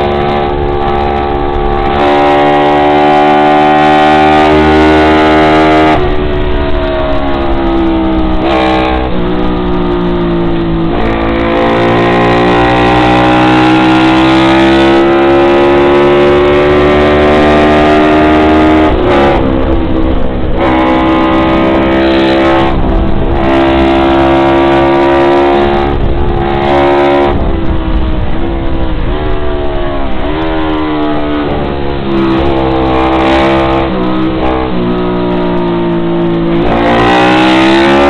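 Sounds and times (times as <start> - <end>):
motorcycle engine under hard throttle: 0.0 - 38.0.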